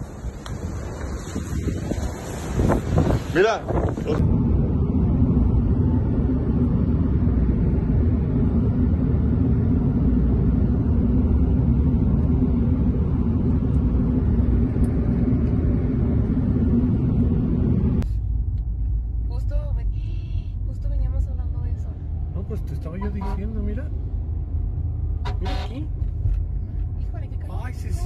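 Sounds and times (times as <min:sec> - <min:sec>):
car road and wind noise: 0:00.0 - 0:28.0.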